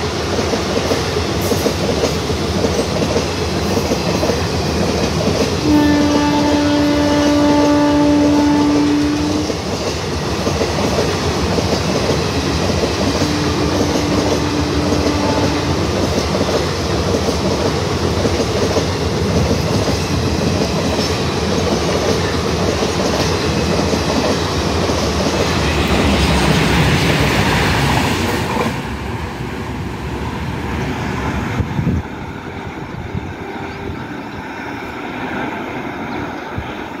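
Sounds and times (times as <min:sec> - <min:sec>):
train wheels running over track: 0:00.0 - 0:37.0.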